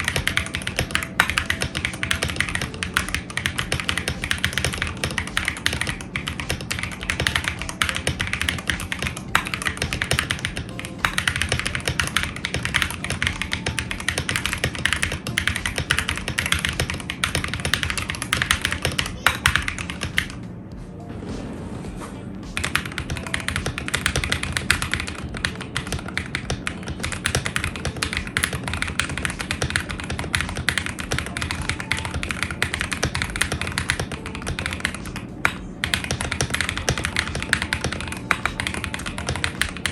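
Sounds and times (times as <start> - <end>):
typing on mechanical keyboard: 0.0 - 20.4, 22.6 - 39.9.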